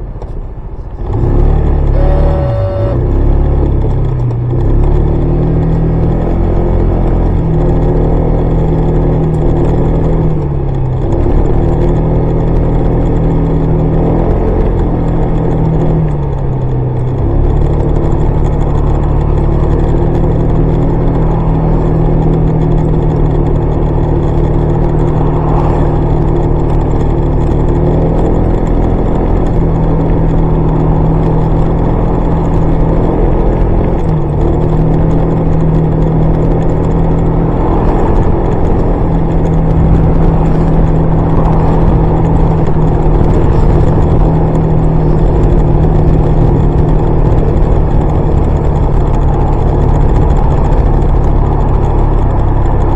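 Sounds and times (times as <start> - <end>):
road and wind noise: 0.0 - 52.9
scooter engine running: 0.7 - 52.9.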